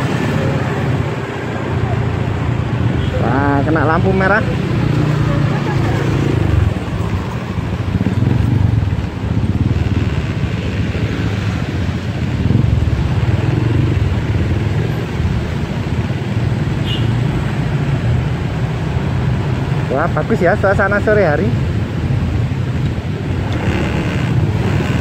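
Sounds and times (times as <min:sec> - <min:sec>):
motorcycle engines running: 0:00.0 - 0:25.0
street traffic: 0:00.0 - 0:25.0.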